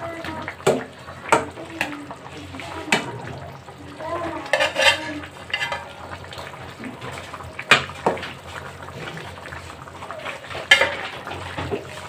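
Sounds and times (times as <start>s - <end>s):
low frying sizzle: 0.0s - 12.0s.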